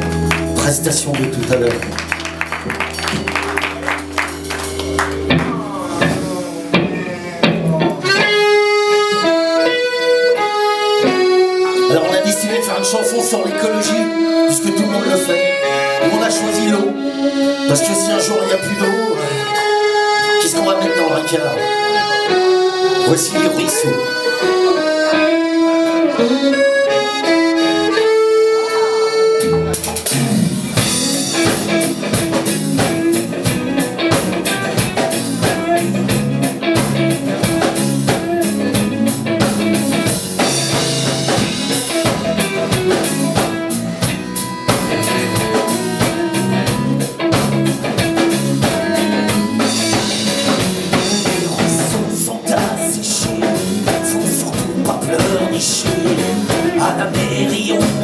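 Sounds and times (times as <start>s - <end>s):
drums guitar and bass band: 0.0s - 12.7s, 21.6s - 58.0s
accordion held chords: 0.0s - 58.0s.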